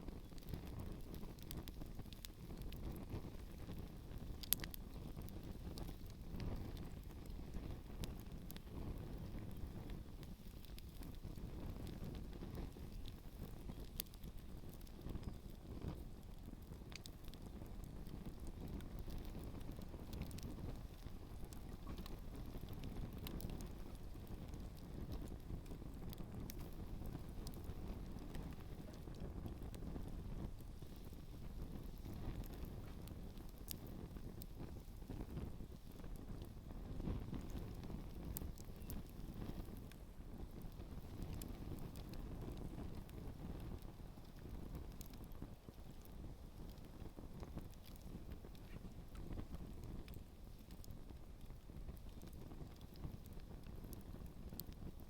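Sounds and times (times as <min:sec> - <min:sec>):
campfire crackling and popping: 0:00.0 - 0:55.0
wind rumble on microphone: 0:00.0 - 0:55.0.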